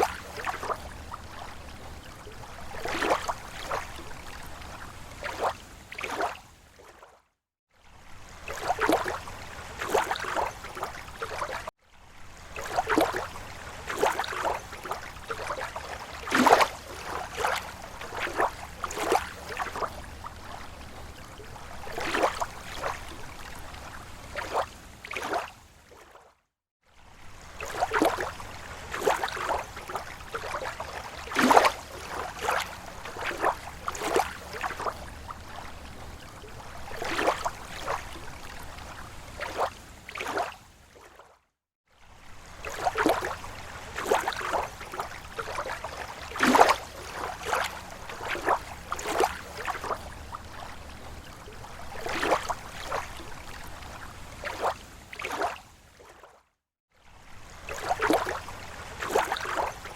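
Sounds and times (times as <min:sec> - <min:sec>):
waves lapping at shore: 0:00.0 - 0:59.9.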